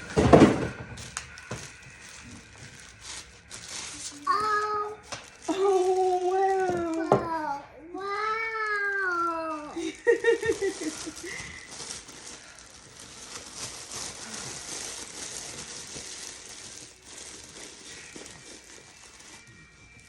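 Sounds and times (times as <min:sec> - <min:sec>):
packaging crinkling and rustling: 0:00.0 - 0:07.6, 0:08.2 - 0:20.0.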